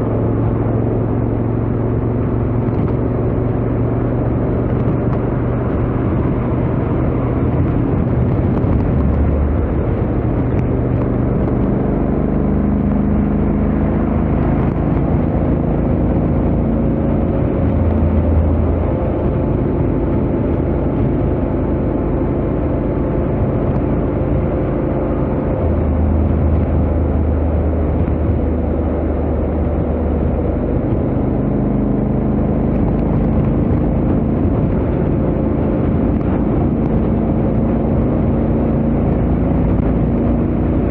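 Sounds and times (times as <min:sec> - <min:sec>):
motorcycle engine at speed: 0:00.0 - 0:40.9
wind and road noise: 0:00.0 - 0:40.9.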